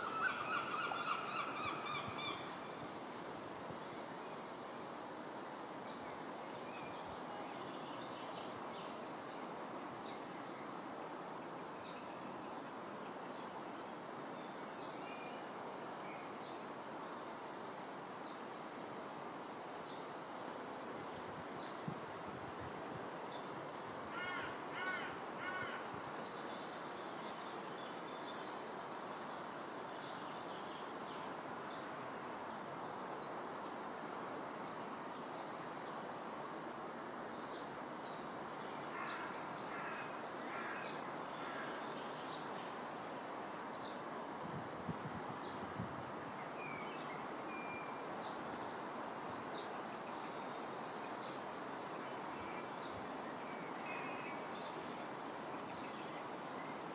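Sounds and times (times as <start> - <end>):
outdoor background hiss: 0.0 - 56.9.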